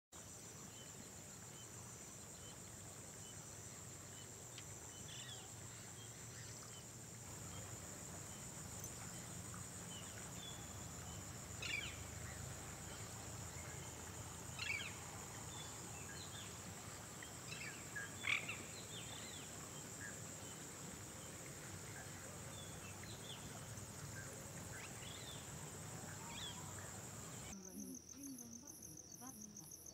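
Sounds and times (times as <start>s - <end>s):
high insect chorus: 0.2s - 29.9s.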